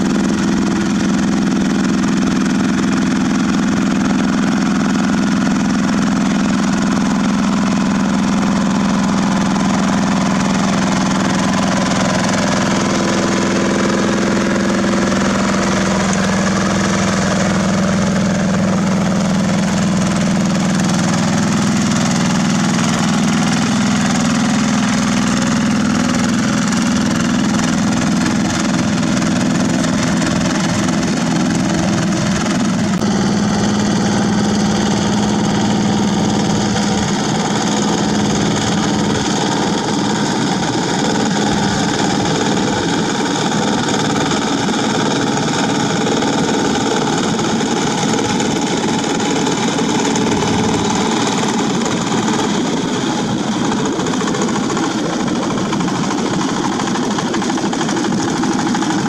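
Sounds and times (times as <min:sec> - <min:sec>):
diesel tractor engine running: 0:00.0 - 0:59.0
rotary tiller working through mud: 0:00.0 - 0:59.0.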